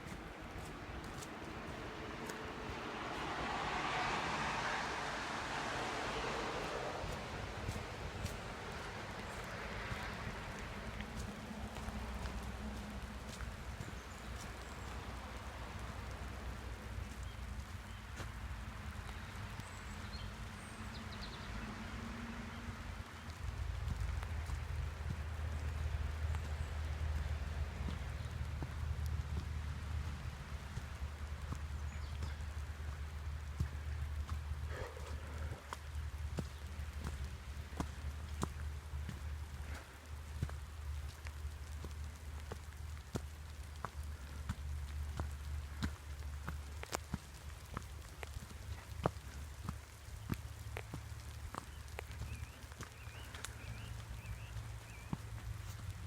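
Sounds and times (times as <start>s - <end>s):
light rain hissing: 0.0s - 20.8s, 23.1s - 56.0s
highway traffic rumble: 0.0s - 56.0s.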